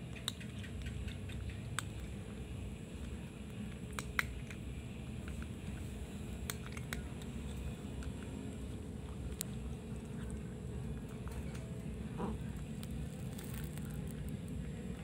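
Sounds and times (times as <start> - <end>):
steady low hum: 0.0 - 15.0
cat crunching dry kibble: 1.3 - 15.0.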